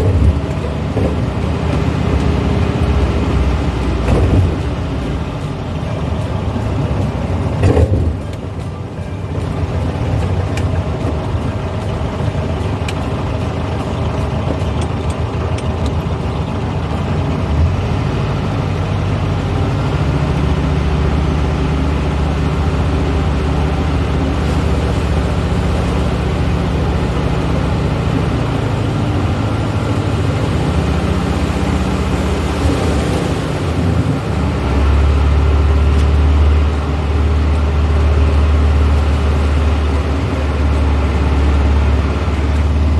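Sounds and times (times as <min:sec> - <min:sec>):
car engine droning: 0:00.0 - 0:42.9.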